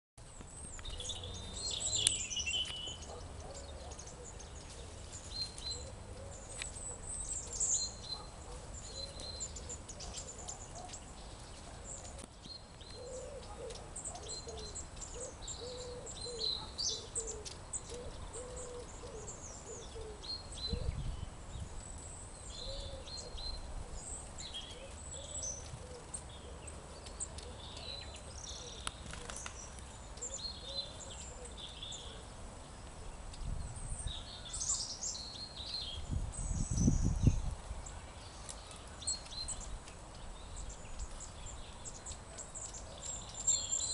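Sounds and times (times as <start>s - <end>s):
small birds chirping: 0.2s - 43.9s.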